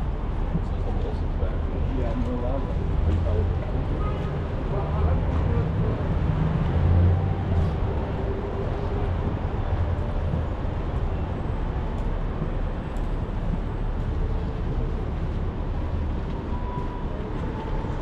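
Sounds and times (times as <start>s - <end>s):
vehicle rumble: 0.0s - 18.0s.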